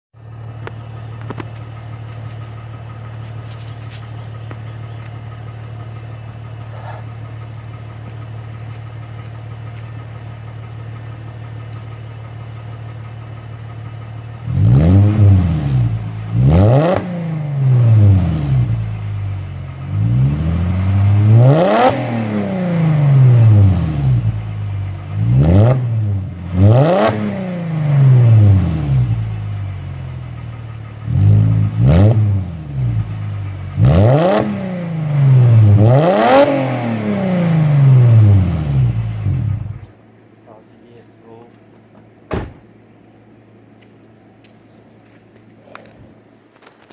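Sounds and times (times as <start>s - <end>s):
car engine idling: 0.2s - 46.9s
car engine revving: 0.3s - 39.9s.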